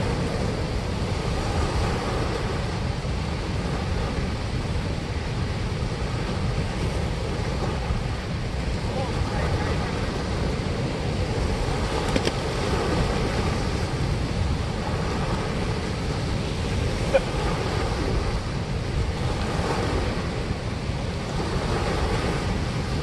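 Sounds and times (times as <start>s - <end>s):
water rushing through spillway: 0.0s - 23.0s.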